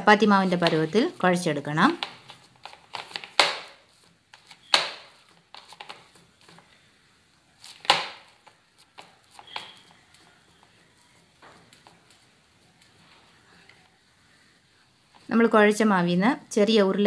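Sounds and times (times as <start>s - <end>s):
hand kneading soft dough: 0.0s - 16.1s.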